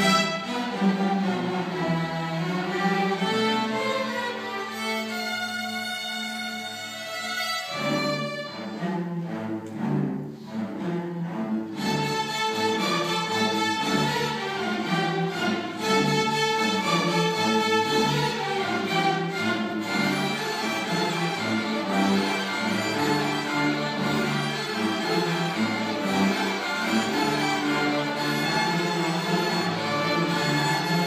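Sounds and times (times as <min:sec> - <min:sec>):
string orchestra playing: 0:00.0 - 0:31.0.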